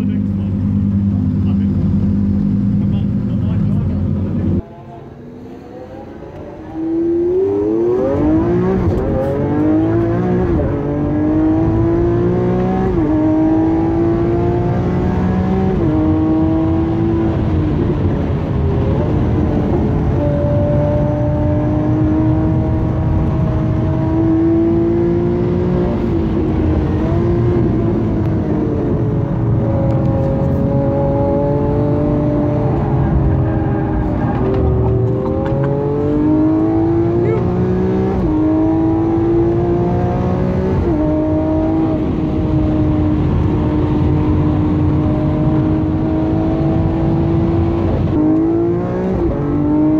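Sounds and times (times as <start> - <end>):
car engine at full throttle: 0.0 - 49.9.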